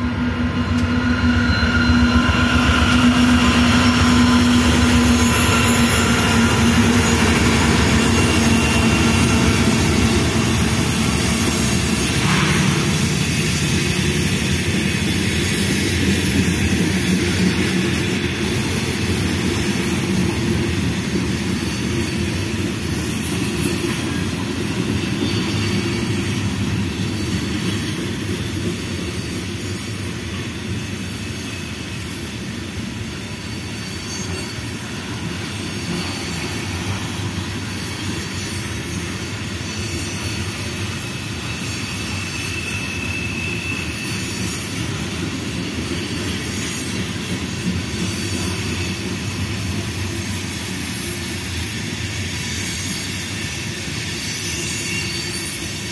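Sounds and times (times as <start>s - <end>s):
high wheel squeal: 0.0s - 55.9s
train wheels rumbling on rails: 0.0s - 55.9s.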